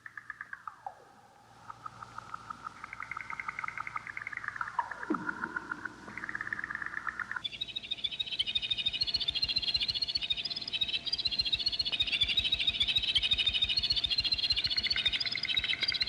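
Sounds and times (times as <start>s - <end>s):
faint steady tone: 0.0s - 16.0s
high chirping chorus: 0.0s - 16.0s
pulsing trills like frog calls: 0.0s - 16.0s.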